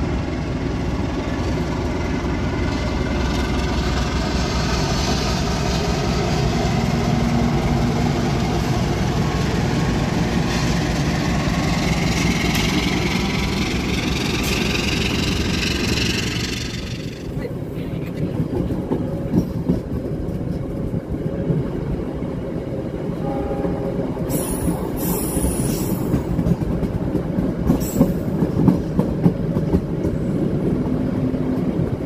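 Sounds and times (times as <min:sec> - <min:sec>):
diesel train running: 0:00.0 - 0:32.0.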